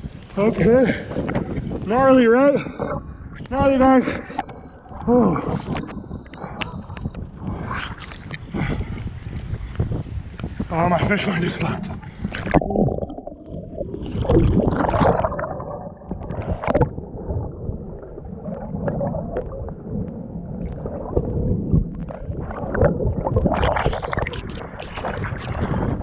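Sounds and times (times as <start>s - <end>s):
water splashing against kayak hull: 0.0s - 10.7s, 11.3s - 26.0s.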